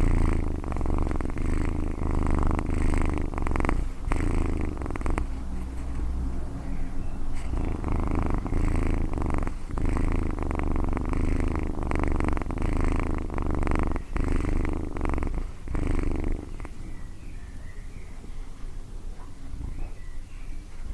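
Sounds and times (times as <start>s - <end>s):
cat purring: 0.0s - 20.9s.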